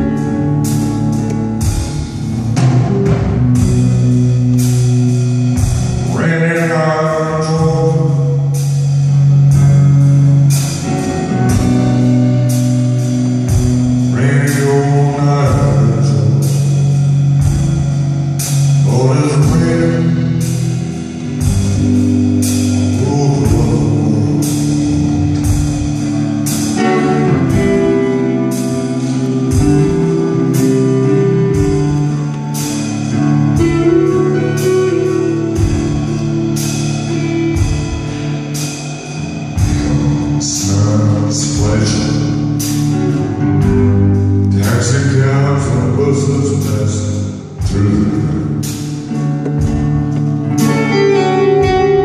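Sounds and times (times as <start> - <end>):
drum kit slow beat: 0.0 - 52.0
electric guitar bending notes: 0.0 - 52.0.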